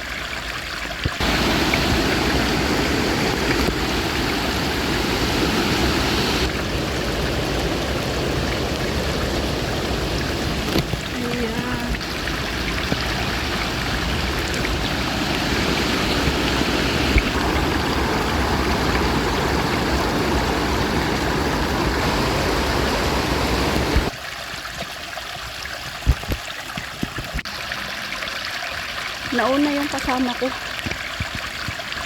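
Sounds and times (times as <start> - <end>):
water rushing in a stream: 0.0 - 32.0.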